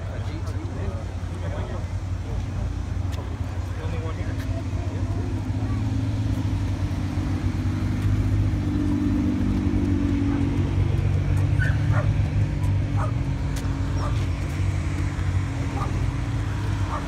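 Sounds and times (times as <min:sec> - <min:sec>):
sports car engine idling: 0:00.0 - 0:17.0.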